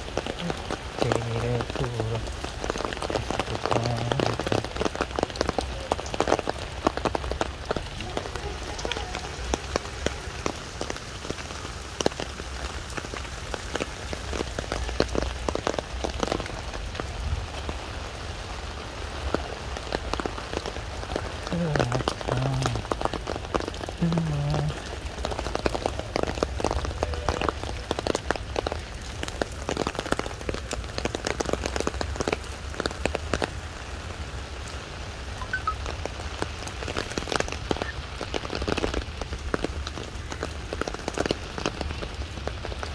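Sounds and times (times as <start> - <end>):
sharp raindrop ticks: 0.0 - 17.8, 19.1 - 42.9
heavy rain on stone paving: 0.0 - 42.9.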